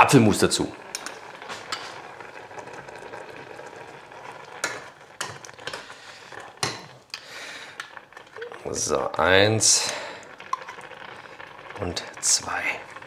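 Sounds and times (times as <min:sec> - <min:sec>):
pot bubbling: 0:00.0 - 0:13.0.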